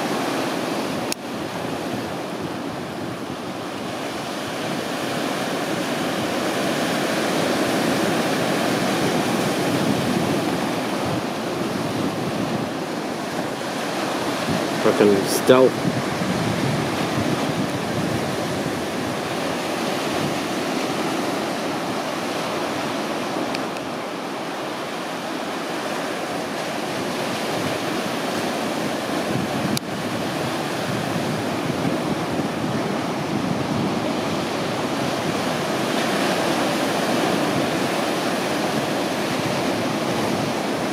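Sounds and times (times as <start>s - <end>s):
surf breaking over rocks: 3.5s - 40.9s.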